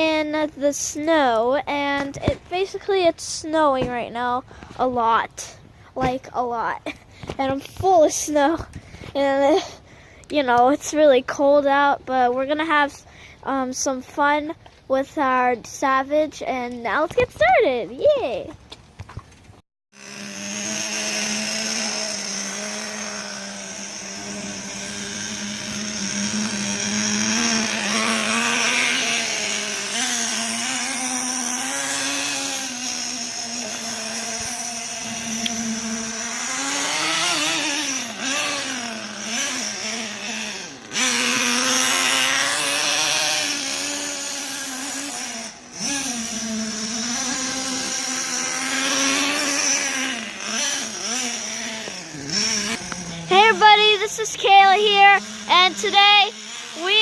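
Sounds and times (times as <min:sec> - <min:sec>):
rc car engine revving: 0:00.0 - 0:11.8, 0:19.9 - 0:57.0.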